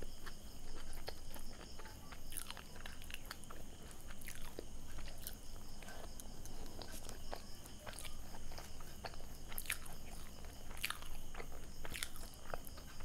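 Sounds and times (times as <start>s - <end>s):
close chewing with wet mouth clicks: 0.0s - 13.0s.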